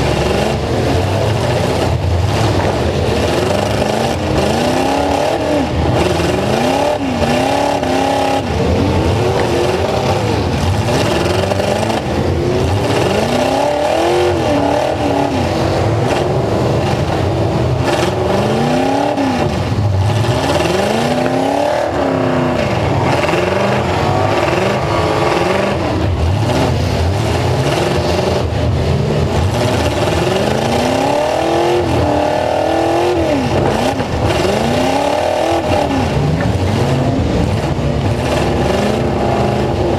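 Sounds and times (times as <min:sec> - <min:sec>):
pickup truck engines revving: 0:00.0 - 0:39.9.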